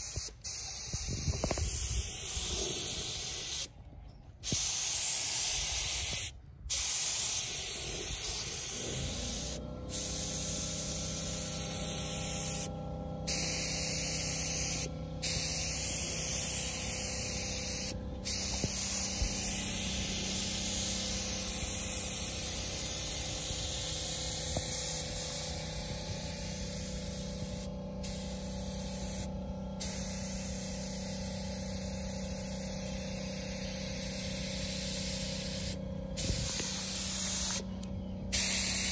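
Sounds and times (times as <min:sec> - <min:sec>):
spray gun hissing: 0:00.0 - 0:03.7, 0:04.4 - 0:37.7, 0:38.3 - 0:38.9
steady low hum: 0:00.0 - 0:38.9.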